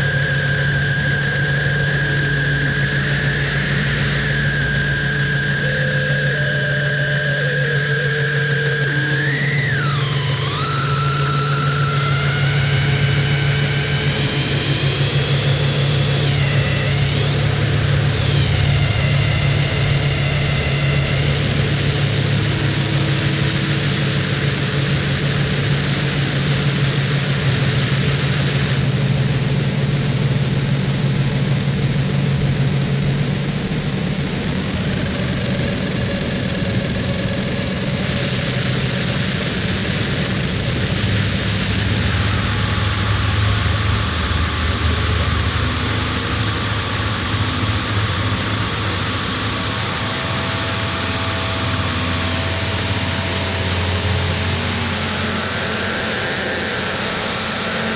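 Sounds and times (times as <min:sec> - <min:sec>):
distorted noise wall: 0:00.0 - 0:57.9
heavy low drone: 0:00.0 - 0:57.9.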